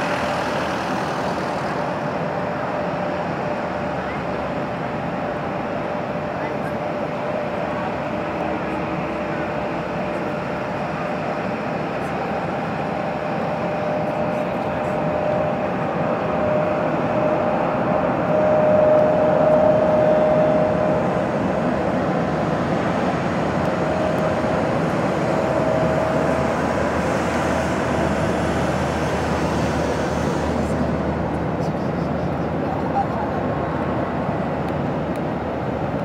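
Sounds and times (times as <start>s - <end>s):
humming whine of passing jet: 0.0s - 36.0s
jet engines taxiing: 0.0s - 36.0s.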